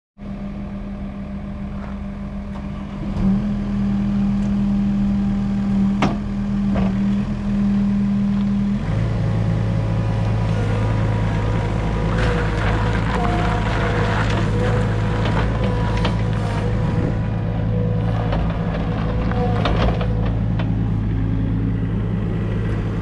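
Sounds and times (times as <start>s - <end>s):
diesel engine running: 0.2s - 23.0s.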